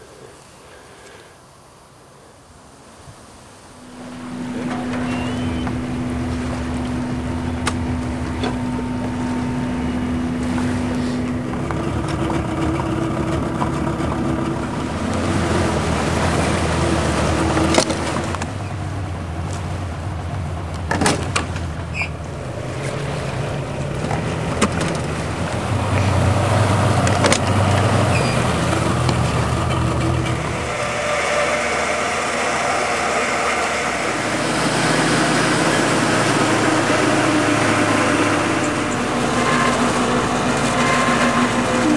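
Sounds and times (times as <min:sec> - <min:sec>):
motor humming: 0:03.8 - 0:41.9.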